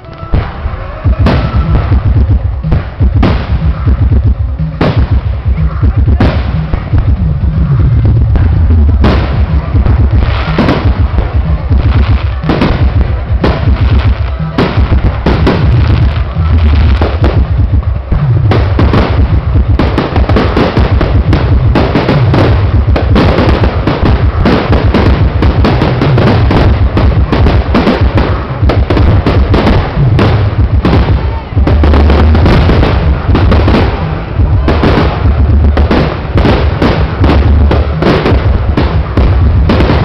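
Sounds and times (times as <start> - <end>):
low rumble: 0.0 - 40.0.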